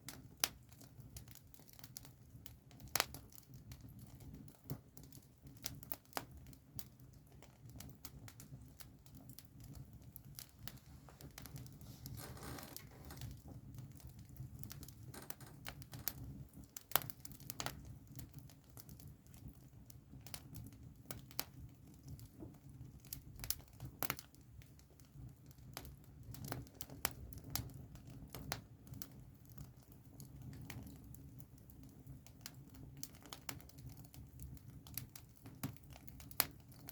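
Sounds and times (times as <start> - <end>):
campfire crackling: 0.0 - 36.9.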